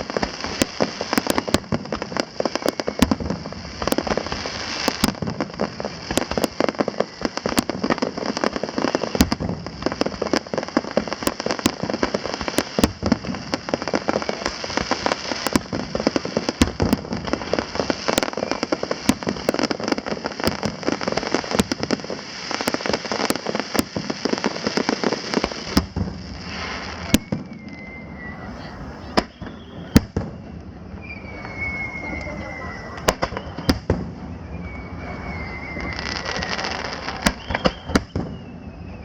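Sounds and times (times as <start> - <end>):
fireworks crackling and banging: 0.0 - 39.0.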